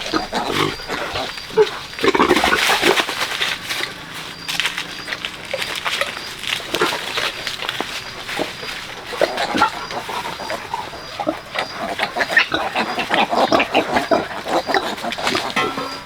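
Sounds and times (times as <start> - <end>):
pigs grunting and squealing: 0.0 - 16.0.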